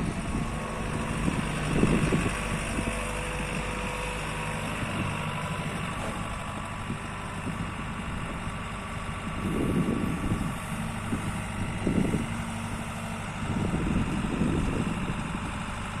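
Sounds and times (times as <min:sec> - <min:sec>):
excavator diesel engine idling: 0:00.0 - 0:16.0.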